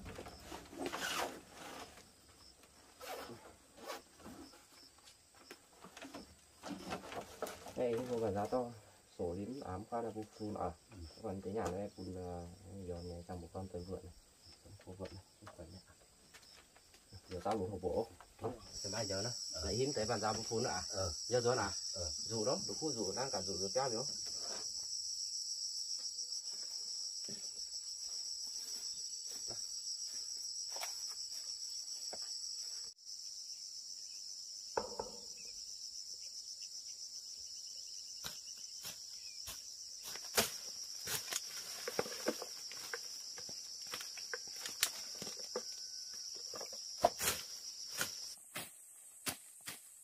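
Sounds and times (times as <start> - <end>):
insects buzzing: 0.0 - 50.0.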